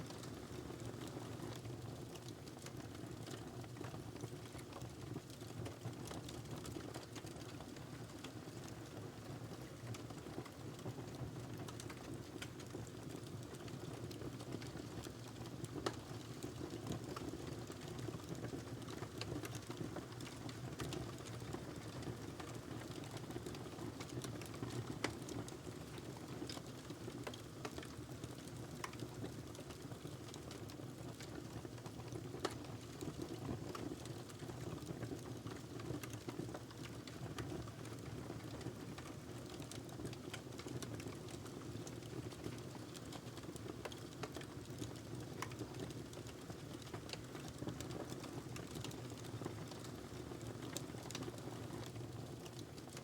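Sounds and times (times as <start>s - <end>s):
wood fire crackling and popping: 0.1s - 8.8s, 9.6s - 53.0s.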